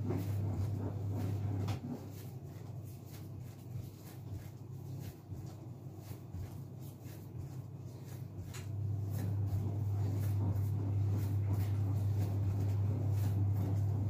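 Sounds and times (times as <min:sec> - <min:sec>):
hands kneading fondant: 0:00.0 - 0:14.0
steady low hum: 0:00.0 - 0:14.0.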